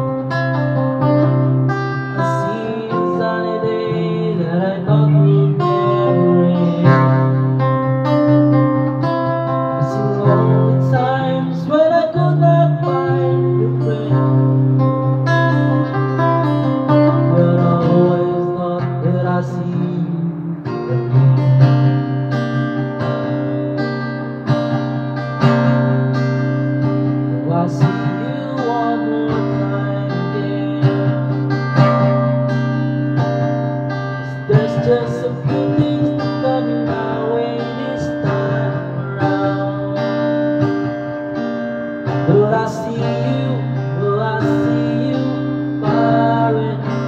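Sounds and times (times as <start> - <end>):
man singing: 0.0 - 22.0, 26.8 - 32.5, 34.1 - 41.0, 42.1 - 47.0
acoustic guitar: 0.0 - 47.0.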